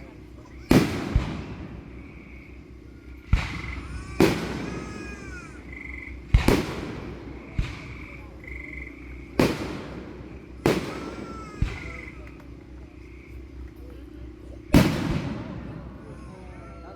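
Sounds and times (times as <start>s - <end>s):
firework shells bursting: 0.0s - 13.7s, 14.7s - 16.3s.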